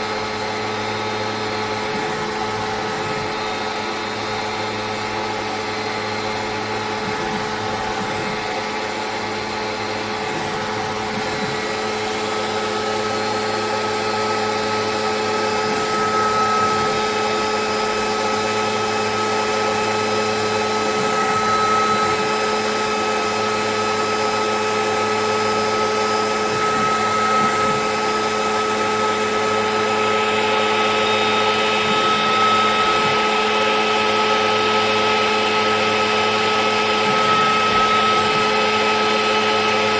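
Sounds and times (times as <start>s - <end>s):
stone cutting machine whine: 0.0s - 39.9s.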